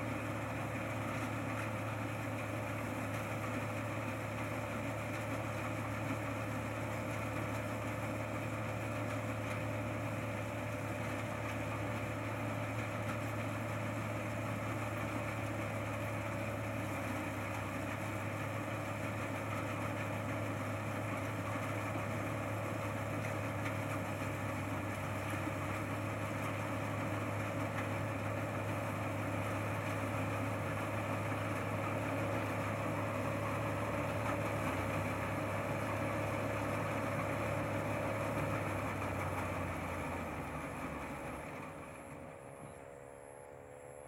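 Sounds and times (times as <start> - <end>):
combine harvester engine running: 0.0 - 44.0.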